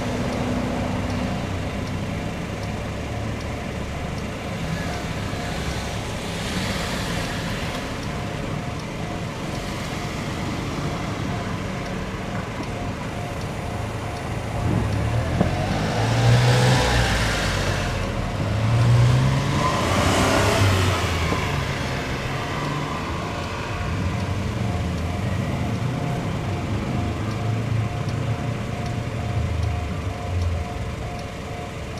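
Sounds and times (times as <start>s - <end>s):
level crossing alarm ringing: 0.0s - 31.9s
road traffic: 0.0s - 31.9s
vehicles passing close by: 0.0s - 31.9s.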